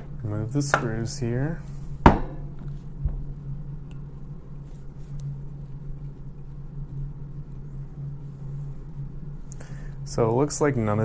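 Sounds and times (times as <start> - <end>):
steady low background hum: 0.0 - 11.0.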